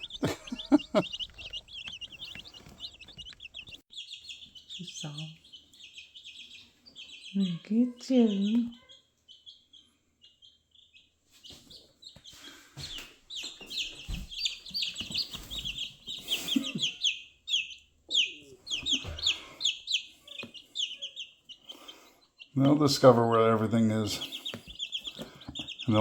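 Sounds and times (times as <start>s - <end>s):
baby chicks peeping: 0.0s - 26.0s.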